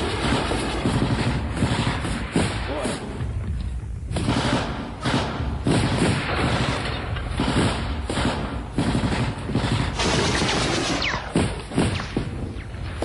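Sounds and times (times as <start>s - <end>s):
rifle gunfire: 0.0s - 3.2s, 4.1s - 13.0s
constant noisy background: 0.0s - 13.0s.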